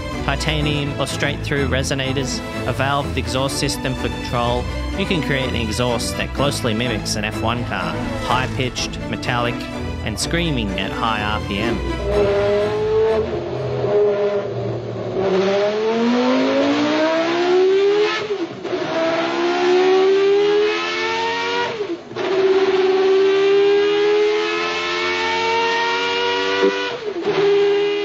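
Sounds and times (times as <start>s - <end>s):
racing engine at high revs: 0.0s - 28.0s.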